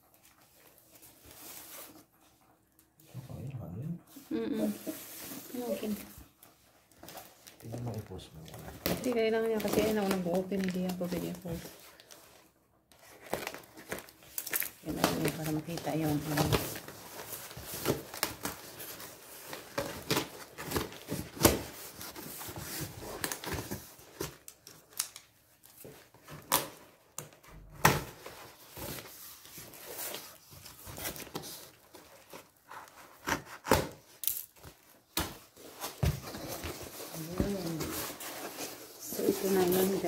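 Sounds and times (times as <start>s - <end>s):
cardboard tearing and rustling: 6.9s - 12.4s, 13.0s - 40.0s.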